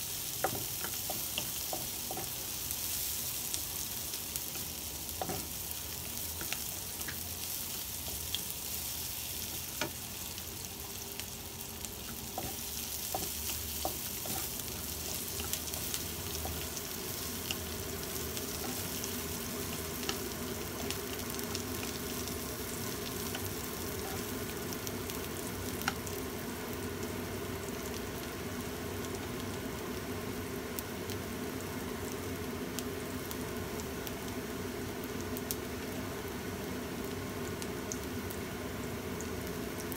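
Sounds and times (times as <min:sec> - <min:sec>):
shallots sizzling in hot oil: 0:00.0 - 0:39.9.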